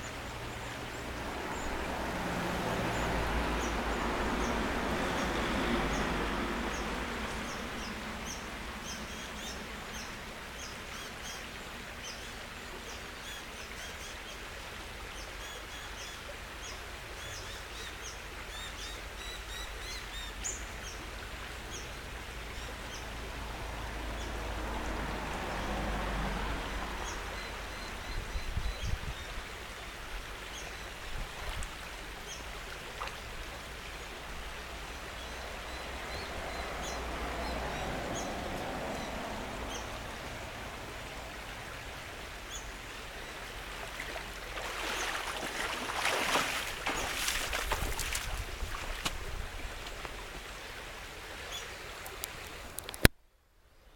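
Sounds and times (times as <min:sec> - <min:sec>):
creek water rushing: 0:00.0 - 0:53.1.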